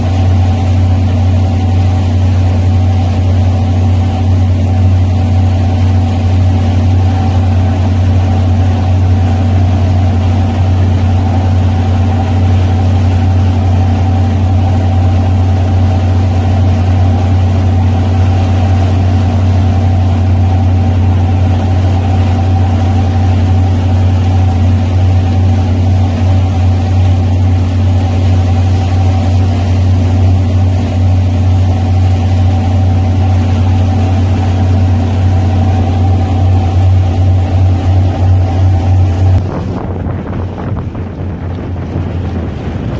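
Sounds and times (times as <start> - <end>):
boat engines droning: 0.0 - 42.9.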